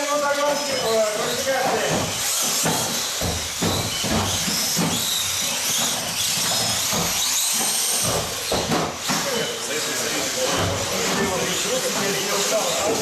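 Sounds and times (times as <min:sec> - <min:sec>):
toy car motors whining: 0:00.0 - 0:13.0.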